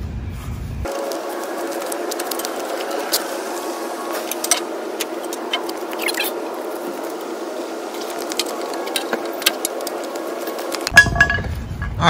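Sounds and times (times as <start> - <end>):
steady hum: 0.8 - 12.0
hand tools clicking and scraping: 0.9 - 12.0.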